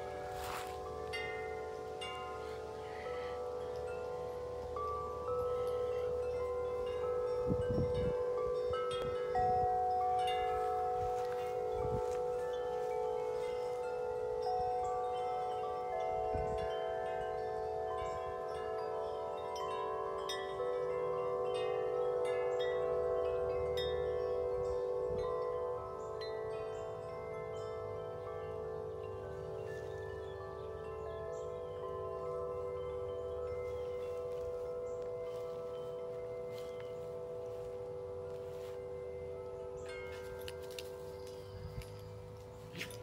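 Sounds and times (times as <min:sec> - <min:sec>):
tubular wind chimes ringing: 0:00.0 - 0:43.0.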